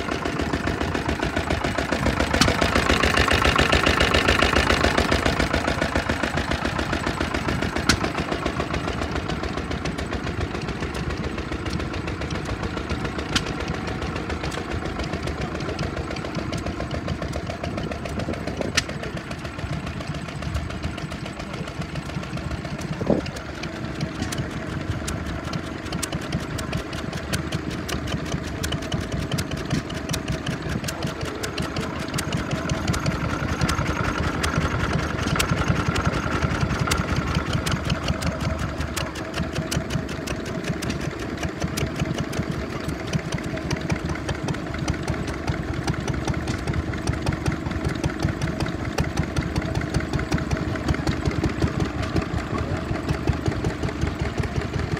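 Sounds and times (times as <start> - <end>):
stationary engines running: 0.0 - 54.9.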